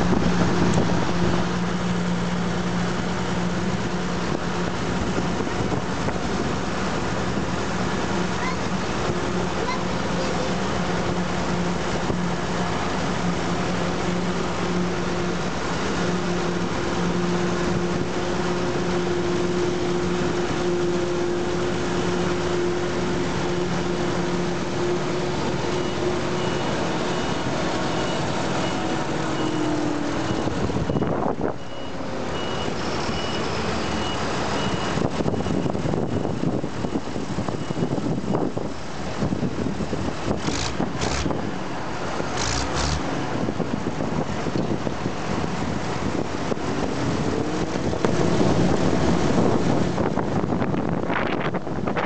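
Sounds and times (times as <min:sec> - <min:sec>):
harvester and tractor engines: 0:00.0 - 0:52.0.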